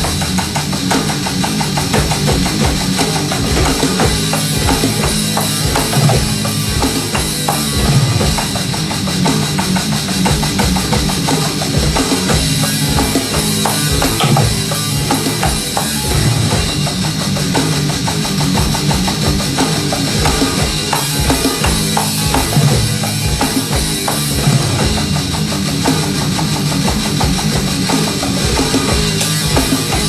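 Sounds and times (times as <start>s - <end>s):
bass drum and snare: 0.0s - 30.0s
rock band playing live: 0.0s - 30.0s.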